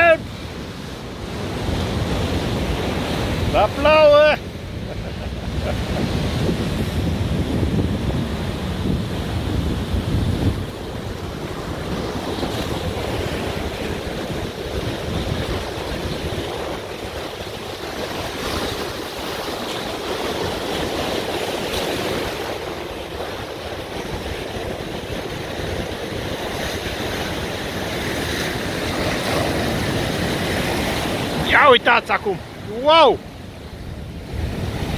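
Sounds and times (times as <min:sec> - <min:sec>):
sea surf crashing on rocks: 0:00.0 - 0:34.9
wind on microphone: 0:00.0 - 0:34.9.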